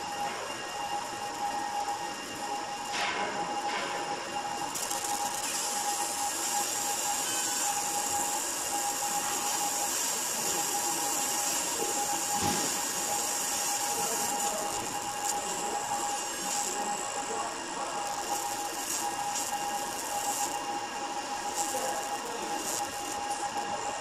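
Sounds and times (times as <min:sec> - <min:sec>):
laser machine hiss and hum: 0:00.0 - 0:24.0.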